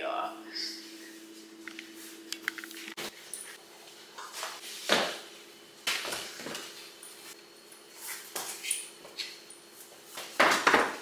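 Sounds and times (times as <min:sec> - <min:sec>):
faint steady hum: 0:00.0 - 0:10.3.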